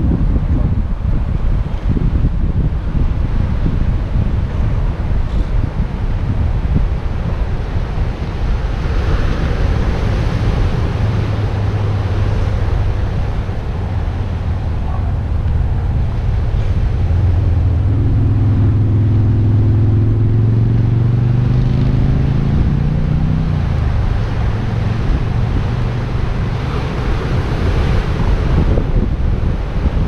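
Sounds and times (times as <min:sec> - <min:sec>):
surf: 0:00.0 - 0:30.0
wind: 0:00.0 - 0:30.0.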